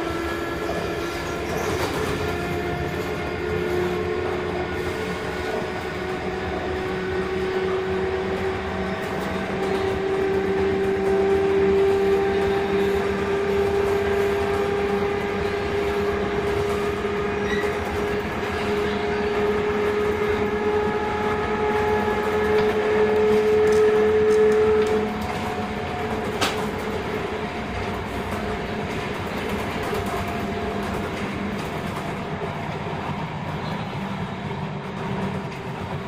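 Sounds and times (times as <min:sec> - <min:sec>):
train motor whine: 0:00.0 - 0:35.4
wheels rumbling on track: 0:00.0 - 0:36.0.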